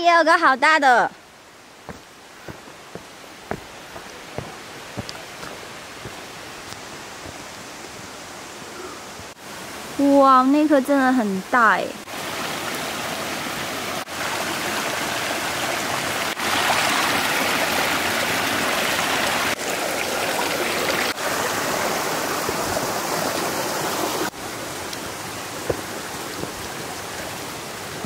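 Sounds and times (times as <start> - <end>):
stream rushing over rocks: 1.2 - 28.0.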